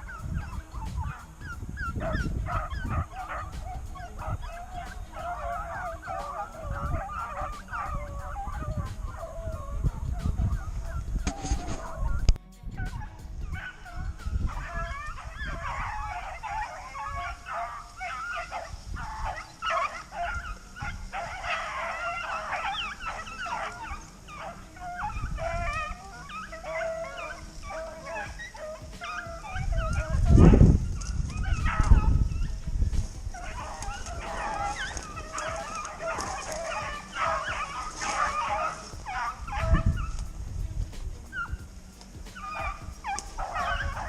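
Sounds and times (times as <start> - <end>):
dogs yelping and baying: 0.0 - 44.0.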